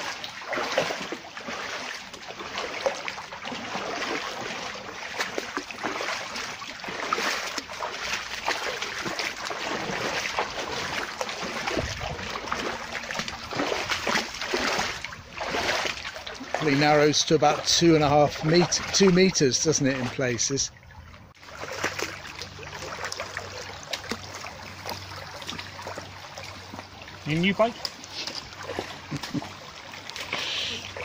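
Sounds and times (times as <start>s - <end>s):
stream rushing: 0.0s - 31.0s
water splashing around legs: 0.0s - 31.0s.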